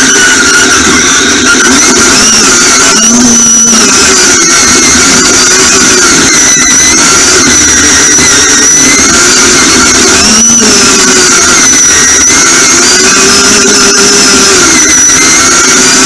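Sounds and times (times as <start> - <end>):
high steady whine: 0.0 - 16.0.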